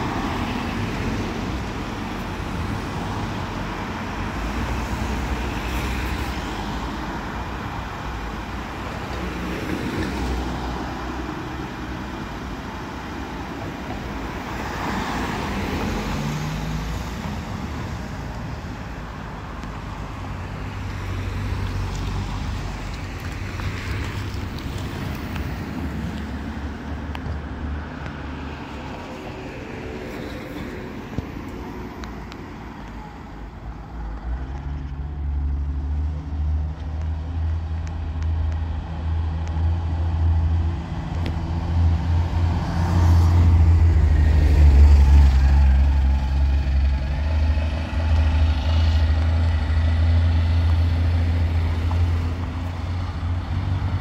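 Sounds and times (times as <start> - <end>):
bus engine drone passing: 0.0 - 54.0
road traffic passing: 0.0 - 54.0.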